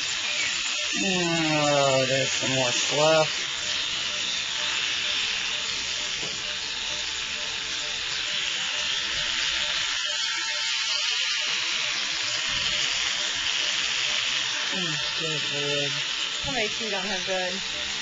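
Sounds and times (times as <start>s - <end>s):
electric clippers buzzing: 0.0s - 18.0s.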